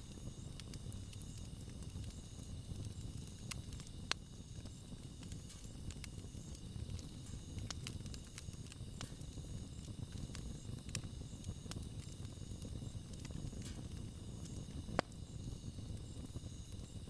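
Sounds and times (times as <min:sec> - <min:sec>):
campfire burning: 0:00.0 - 0:17.0
fire crackles and pops: 0:00.0 - 0:17.0.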